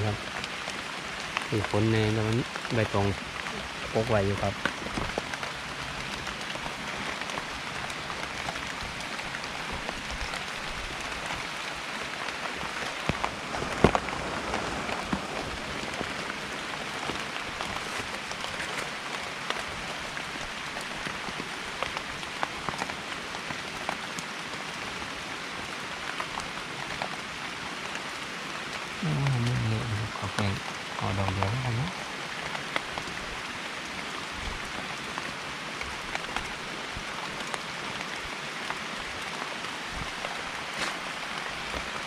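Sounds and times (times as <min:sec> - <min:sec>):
raindrops tapping close by: 0:00.0 - 0:42.0
steady rain falling: 0:00.0 - 0:42.0.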